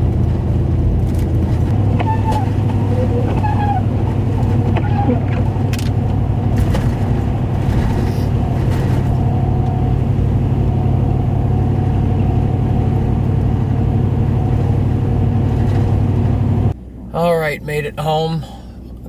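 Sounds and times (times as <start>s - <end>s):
car cabin engine and tyre drone: 0.0s - 19.0s.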